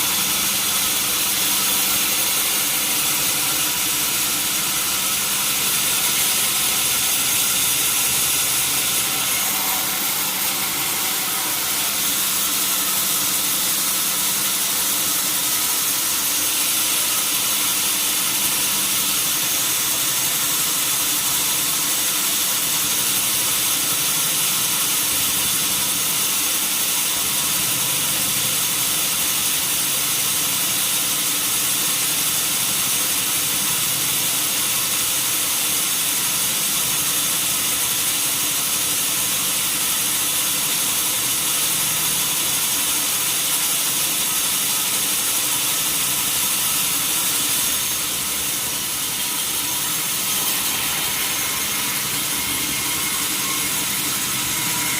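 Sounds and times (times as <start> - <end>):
band saw running: 0.0 - 54.9.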